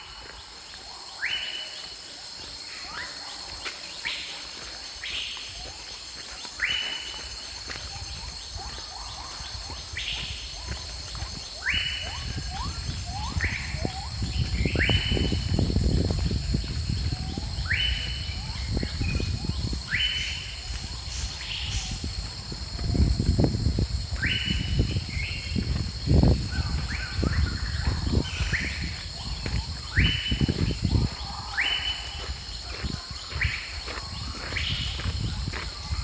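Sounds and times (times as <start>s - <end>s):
high insect drone: 0.0s - 36.0s.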